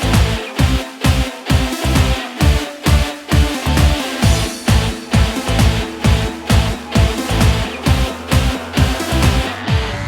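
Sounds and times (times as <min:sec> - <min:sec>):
driving kick drum: 0:00.0 - 0:10.0
electronic dance music: 0:00.0 - 0:10.0
held synth chords: 0:00.0 - 0:10.0.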